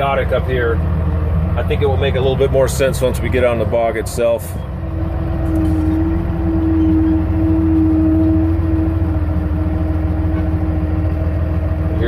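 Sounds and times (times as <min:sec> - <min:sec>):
steady whine: 0:00.0 - 0:12.0
tractor diesel engine running: 0:00.0 - 0:12.0.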